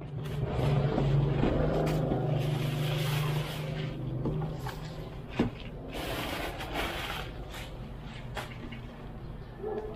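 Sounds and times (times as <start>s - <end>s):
plastic packaging rustling: 0.3s - 8.8s.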